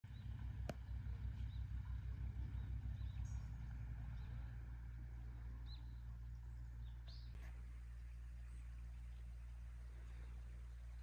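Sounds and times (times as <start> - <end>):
pulsing low rumble: 0.1 - 11.0.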